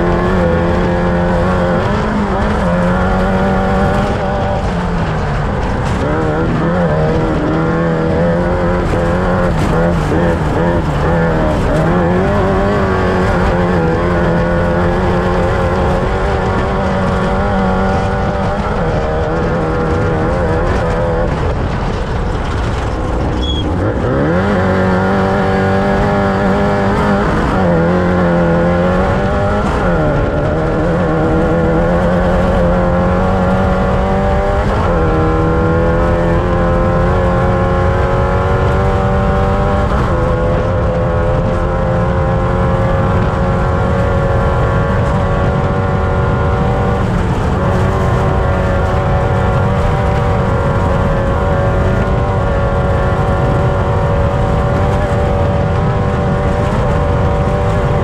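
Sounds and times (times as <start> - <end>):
race vehicle engine running hard: 0.0 - 58.0.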